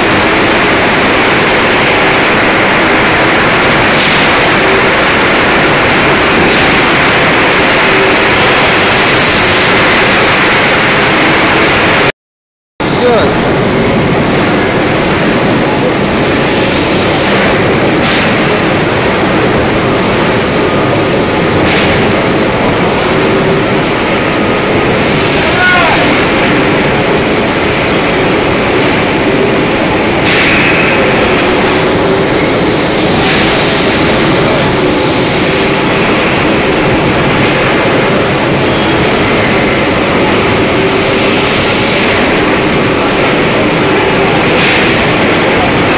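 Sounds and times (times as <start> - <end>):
forging press roaring: 0.0 - 12.1, 12.8 - 45.9.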